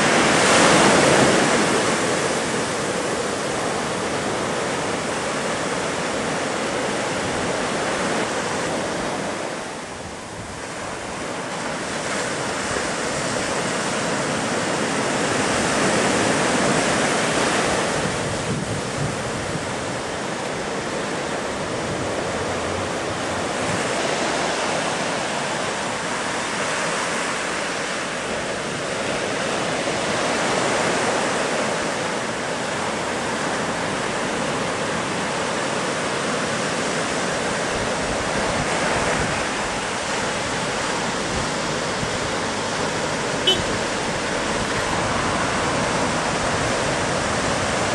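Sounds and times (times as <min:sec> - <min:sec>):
waves breaking: 0:00.0 - 0:47.9.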